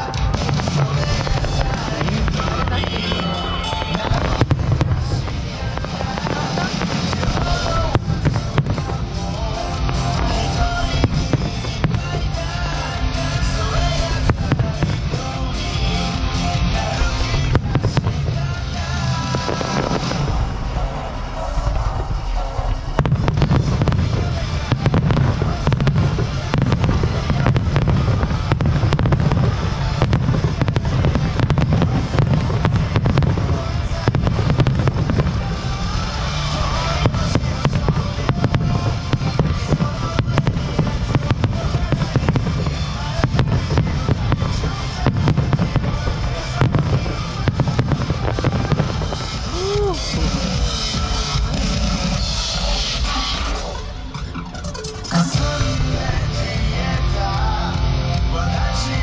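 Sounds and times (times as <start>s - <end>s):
fireworks bangs: 0.0s - 59.0s
low rumble: 0.0s - 59.0s
music with heavy bass: 0.0s - 59.0s.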